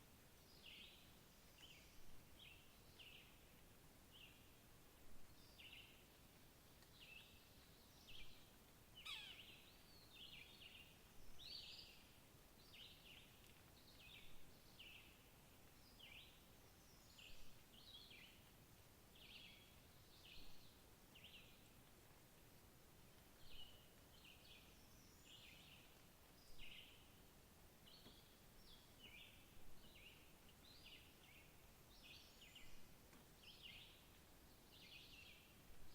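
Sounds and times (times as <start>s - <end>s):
background hiss: 0.0s - 35.9s
small birds chirping: 0.4s - 22.4s, 23.0s - 35.9s.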